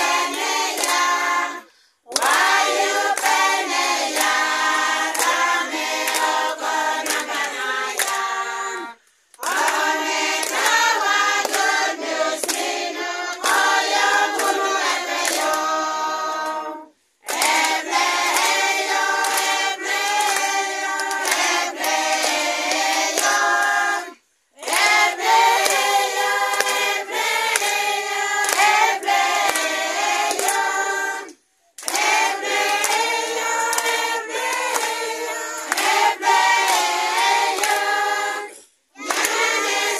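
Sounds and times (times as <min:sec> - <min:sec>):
hands clapping: 0:00.0 - 0:08.6, 0:09.3 - 0:16.6, 0:17.2 - 0:23.9, 0:24.6 - 0:39.9
women singing together: 0:00.0 - 0:39.9.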